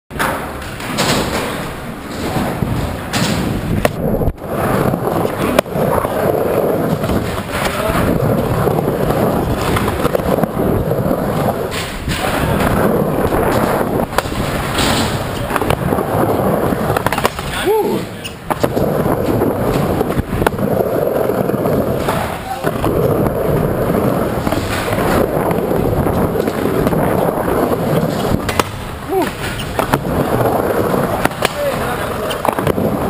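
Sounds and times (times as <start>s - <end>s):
skateboard clacks: 0.1s - 33.0s
skateboard wheels rolling: 0.1s - 33.0s.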